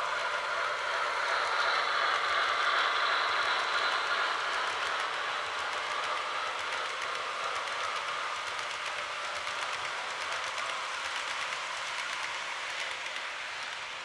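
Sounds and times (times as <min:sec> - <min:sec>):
model train wheels hissing: 0:00.0 - 0:14.0
clicking at rail joints: 0:00.2 - 0:14.0.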